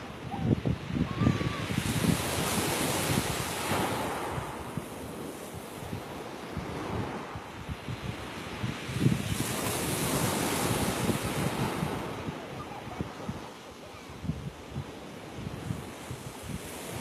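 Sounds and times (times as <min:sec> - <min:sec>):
wind buffeting microphone: 0:00.0 - 0:17.0
waves breaking on pebble beach: 0:00.9 - 0:17.0.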